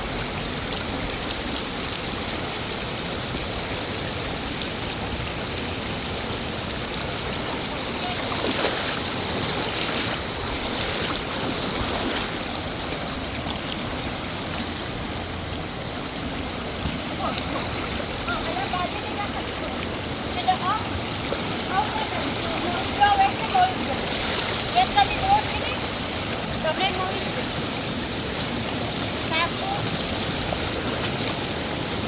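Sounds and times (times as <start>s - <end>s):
river water flowing over rocks: 0.0s - 32.0s
water splashes: 0.0s - 32.0s.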